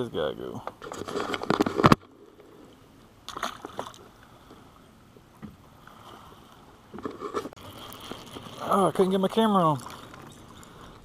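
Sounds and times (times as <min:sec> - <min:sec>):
small waves lapping against boat hull: 0:00.4 - 0:11.0.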